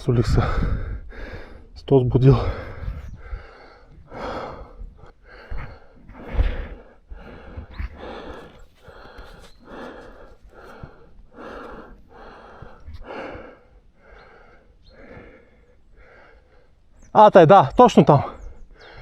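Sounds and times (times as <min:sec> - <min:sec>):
person panting hard: 0:00.3 - 0:16.8.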